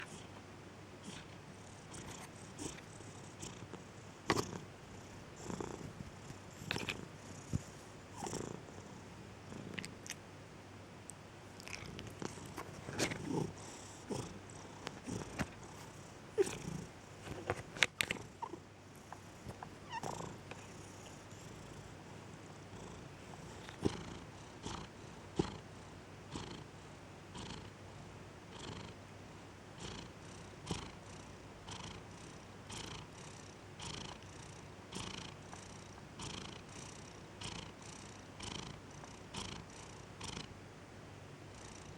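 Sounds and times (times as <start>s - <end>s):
cat purring: 0.0s - 0.4s, 1.0s - 10.2s, 11.5s - 27.8s, 28.5s - 29.0s, 29.7s - 40.6s.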